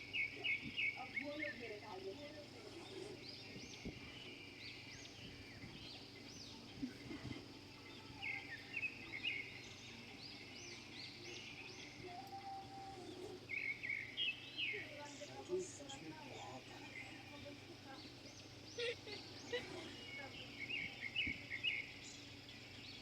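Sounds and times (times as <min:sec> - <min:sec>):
outdoor hiss: 0:00.0 - 0:23.0
small birds chirping: 0:00.0 - 0:23.0.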